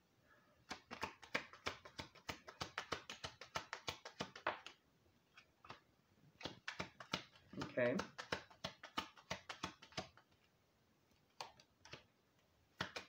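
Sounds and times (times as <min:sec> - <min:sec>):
cards being shuffled by hand: 0:00.6 - 0:10.5, 0:11.2 - 0:13.0.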